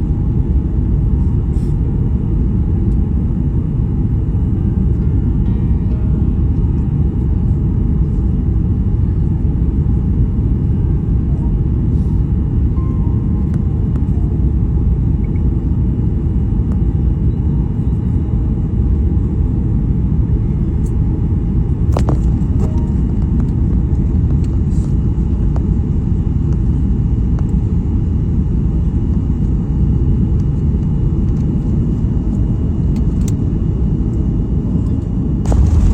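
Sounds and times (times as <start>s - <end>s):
airliner cabin rumble: 0.0s - 28.4s, 30.0s - 35.9s.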